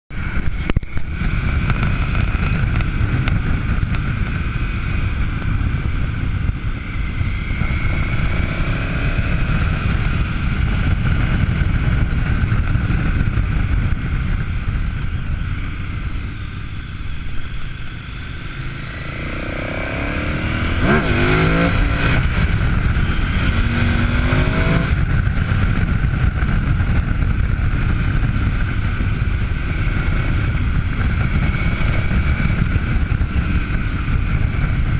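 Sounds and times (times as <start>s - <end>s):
wind rushing over microphone: 0.1s - 34.9s
motorcycle engine revving: 0.2s - 34.9s.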